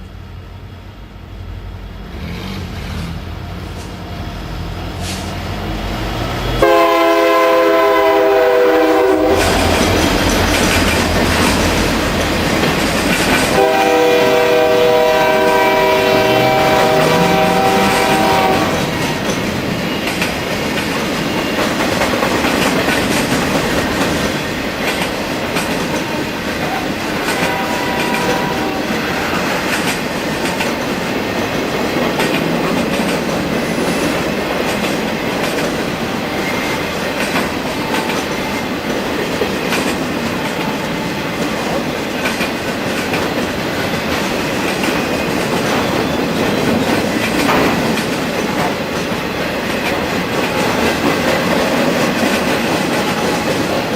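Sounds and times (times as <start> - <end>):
train rumbling: 0.0 - 53.9
train wheels clicking over rail joints: 8.2 - 53.9.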